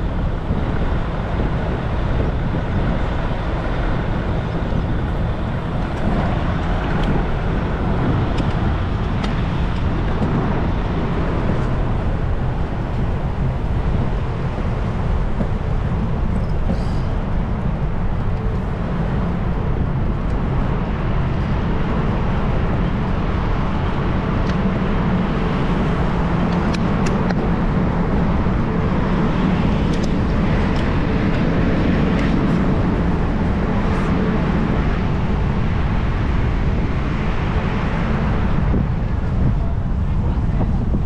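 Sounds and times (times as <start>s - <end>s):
road and wind noise of bicycle: 0.0s - 41.0s.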